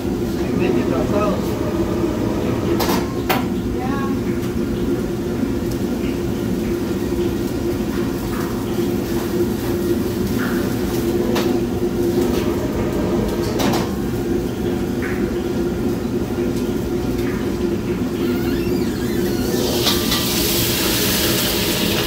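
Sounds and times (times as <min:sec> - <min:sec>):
exhaust fan roar: 0:00.0 - 0:22.0.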